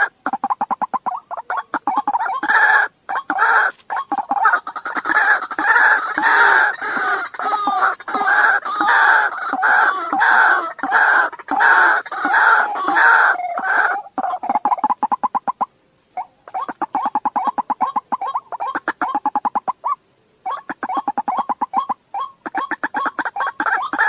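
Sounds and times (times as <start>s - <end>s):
waterhen harsh croaking call: 0.0s - 24.0s.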